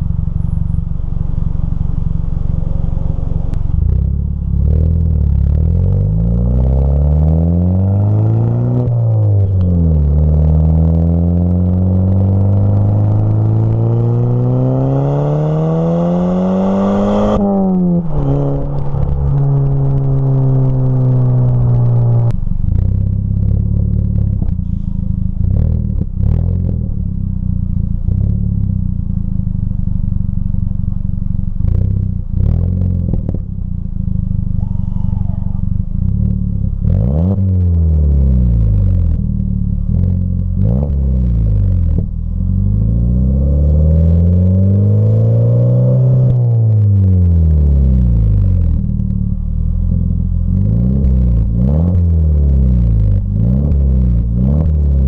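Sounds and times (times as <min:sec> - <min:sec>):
crackly exhaust rumble: 0:00.0 - 0:15.0, 0:17.2 - 0:55.0
car engine accelerating: 0:00.0 - 0:55.0.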